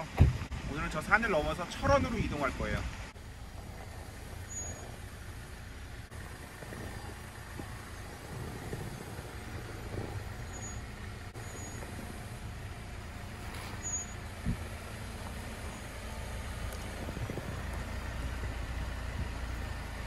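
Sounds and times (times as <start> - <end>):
car engine running at low revs: 0.0 - 20.0
tyres crackling over soil: 0.0 - 20.0.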